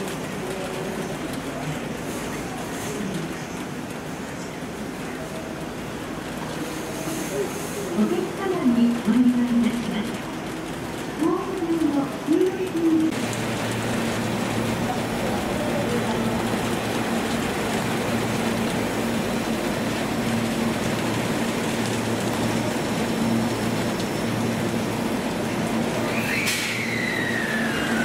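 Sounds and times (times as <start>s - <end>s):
electric train passing: 0.0s - 28.0s
heavy rain: 0.0s - 28.0s.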